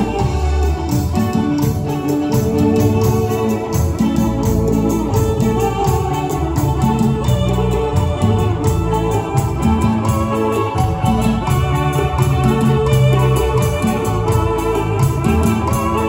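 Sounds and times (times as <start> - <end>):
bass line: 0.0 - 16.0
organ chords on keyboard: 0.0 - 16.0
steady drum beat: 0.0 - 16.0.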